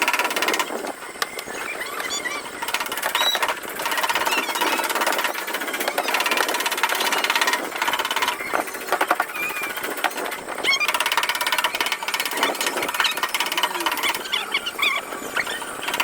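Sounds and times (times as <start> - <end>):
high squeaks: 1.2 - 9.9, 10.6 - 16.0.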